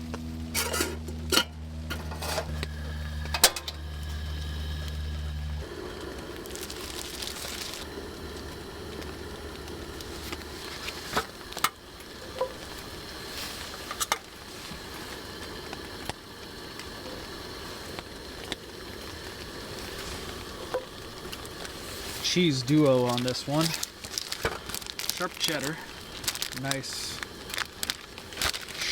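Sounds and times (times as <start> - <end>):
camp stove hissing: 0.0 - 28.9.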